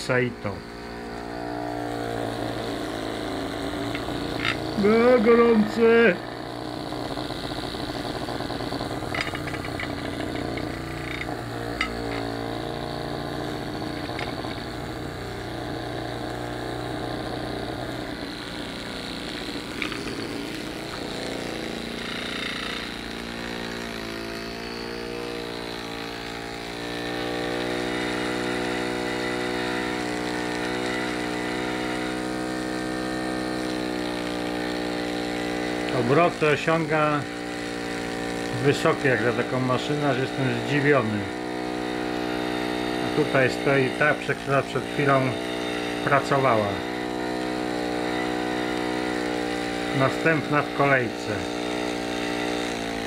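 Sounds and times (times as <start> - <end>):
model steam engine buzzing: 0.0 - 53.0.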